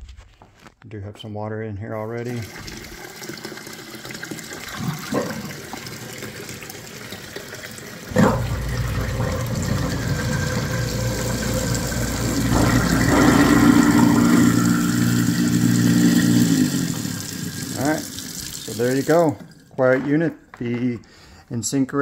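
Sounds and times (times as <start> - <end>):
tap water running into sink: 2.2 - 20.2
garbage disposal humming: 2.2 - 21.2.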